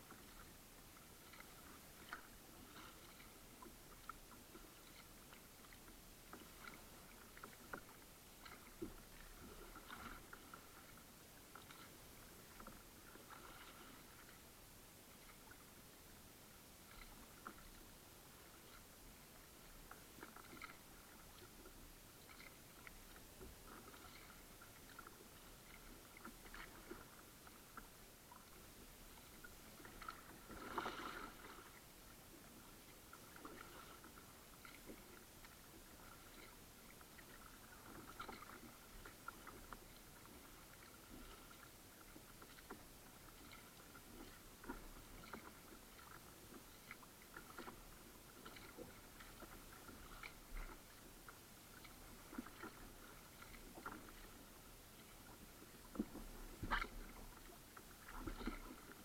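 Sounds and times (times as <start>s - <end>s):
paddle splashing in water: 0.0s - 14.5s, 16.8s - 59.0s.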